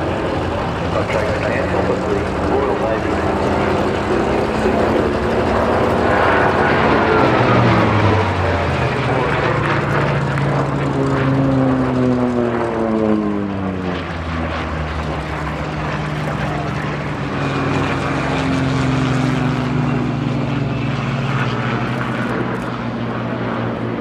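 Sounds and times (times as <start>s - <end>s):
propeller plane flying past: 0.0s - 24.0s.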